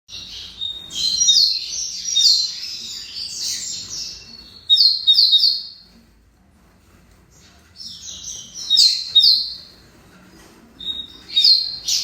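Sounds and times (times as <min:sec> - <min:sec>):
bird twittering song: 0:00.1 - 0:06.0, 0:07.3 - 0:10.0, 0:10.8 - 0:12.0.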